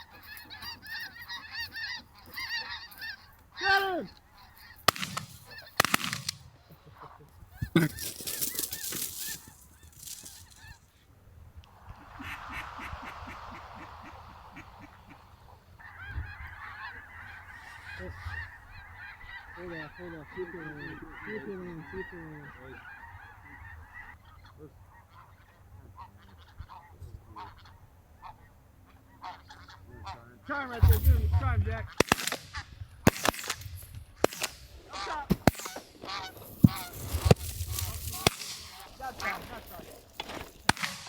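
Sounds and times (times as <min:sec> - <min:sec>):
low goose honks: 0:00.0 - 0:11.1, 0:11.9 - 0:32.8, 0:33.8 - 0:41.0
geese calling: 0:00.0 - 0:41.0.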